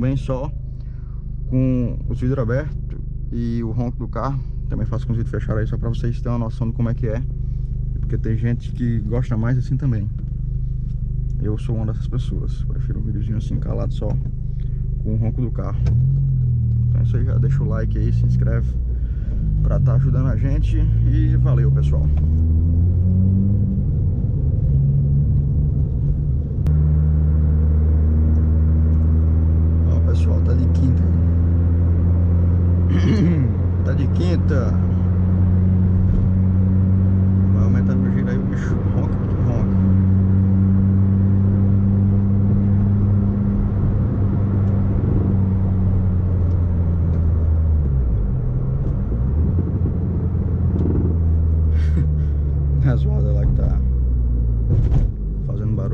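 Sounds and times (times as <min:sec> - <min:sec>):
car engine droning: 0:00.0 - 0:55.9.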